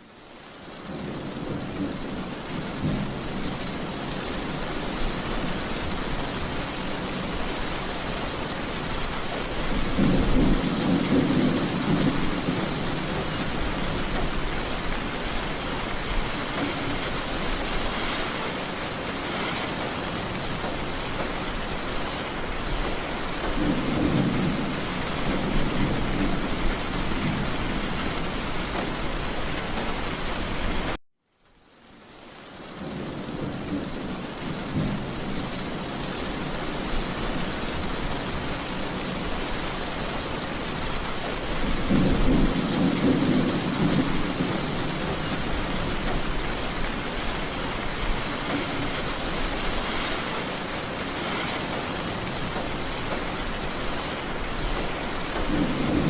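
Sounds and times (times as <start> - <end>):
steady rain falling: 0.0 - 56.0
rolling thunder rumbles: 0.7 - 31.0, 32.7 - 56.0.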